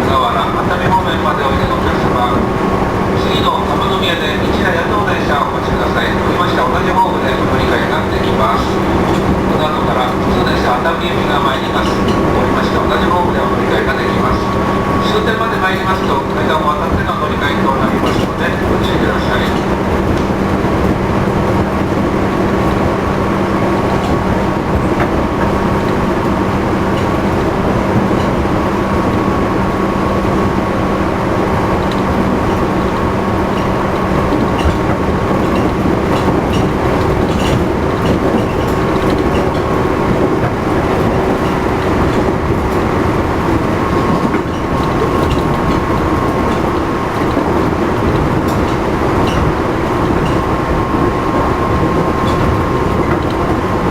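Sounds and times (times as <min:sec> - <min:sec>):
electric train motor whine: 0:00.0 - 0:53.9
rail joint clickety-clack: 0:00.0 - 0:53.9
wheel rumble: 0:00.0 - 0:53.9.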